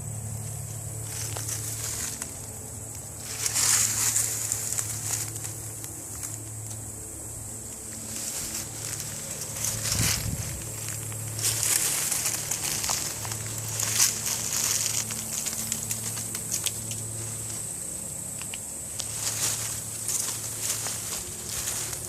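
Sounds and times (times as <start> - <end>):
footsteps crunching dry leaves: 0.0 - 22.0.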